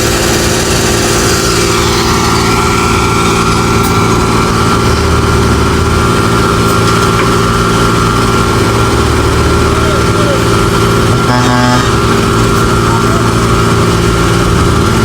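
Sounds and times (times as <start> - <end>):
heavy machinery engine humming: 0.0 - 15.0
thin steady whine: 0.0 - 15.0.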